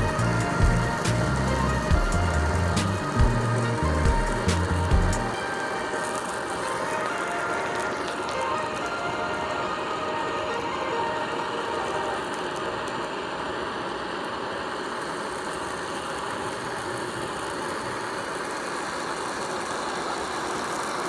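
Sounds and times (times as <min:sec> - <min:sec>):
blow torch flame hissing: 0:00.0 - 0:21.0.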